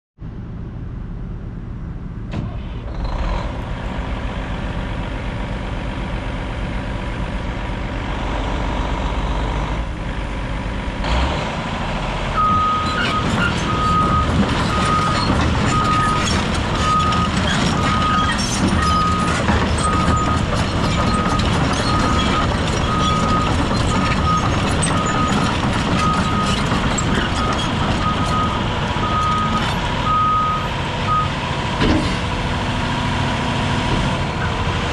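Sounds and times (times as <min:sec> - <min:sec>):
excavator diesel engine running: 0:00.3 - 0:34.9.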